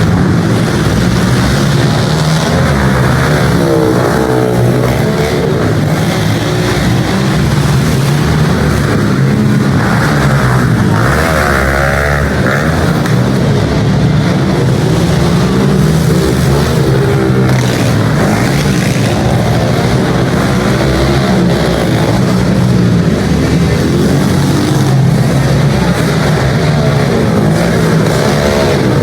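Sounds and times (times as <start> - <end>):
pit bike engines revving: 0.0 - 29.0.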